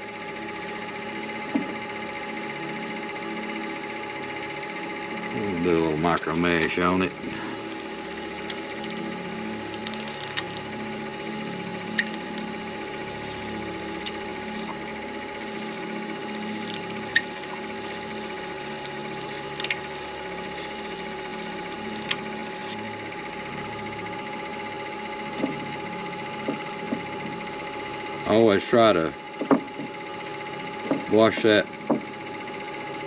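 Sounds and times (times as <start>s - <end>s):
lathe motor humming: 0.0s - 33.0s.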